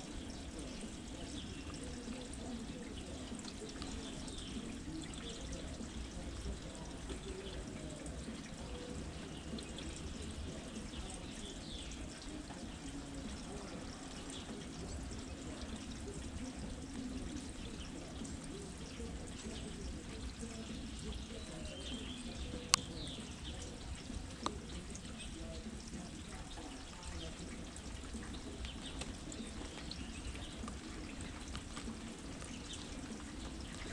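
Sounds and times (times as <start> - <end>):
faint bird chirps: 0.0 - 33.9
steady rain: 0.0 - 33.9
water dripping and trickling: 0.0 - 33.9.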